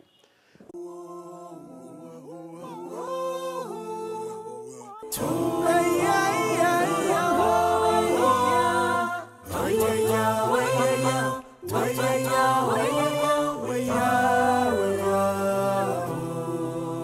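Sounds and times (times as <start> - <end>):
voices singing in harmony: 0.7 - 17.0.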